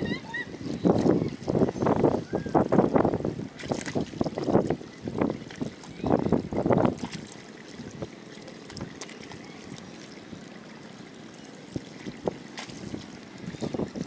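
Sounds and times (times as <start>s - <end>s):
water sloshing: 0.0s - 14.0s.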